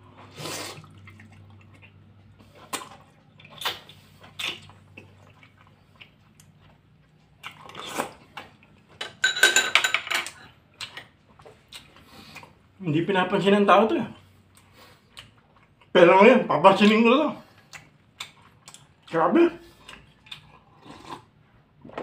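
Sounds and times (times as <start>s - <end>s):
person chewing food: 0.0s - 9.0s, 10.3s - 12.8s, 14.2s - 16.0s, 16.8s - 22.0s.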